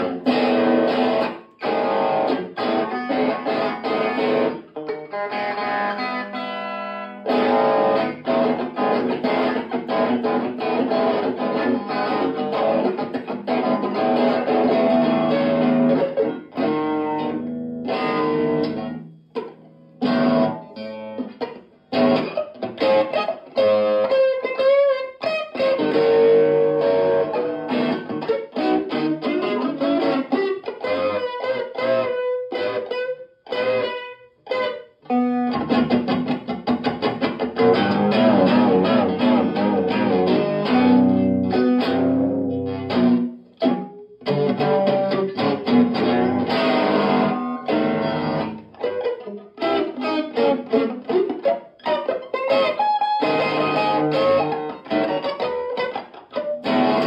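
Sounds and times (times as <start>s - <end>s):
electric guitar riffs and strumming: 0.0s - 57.0s.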